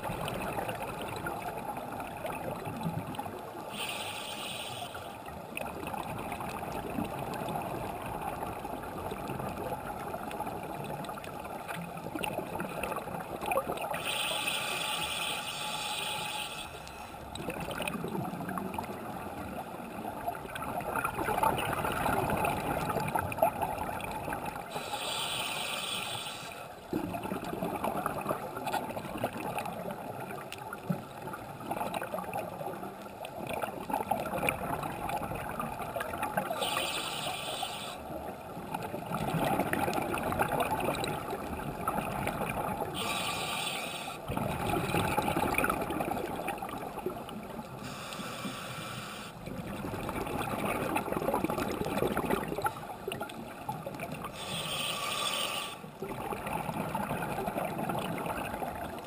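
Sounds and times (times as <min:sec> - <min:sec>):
exhaled bubbles crackling: 0:00.0 - 0:04.4, 0:05.2 - 0:26.2, 0:26.8 - 0:59.0.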